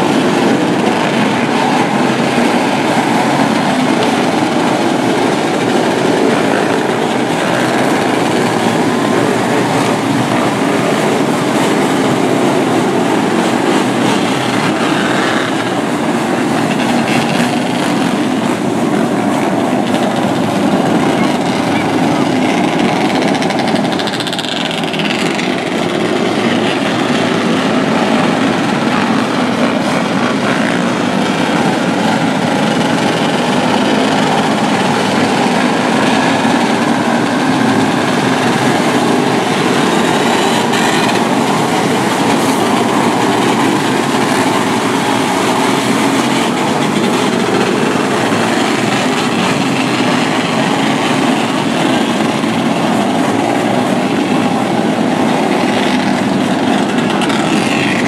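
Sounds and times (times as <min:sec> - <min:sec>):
racing car engines droning: 0:00.0 - 0:58.0.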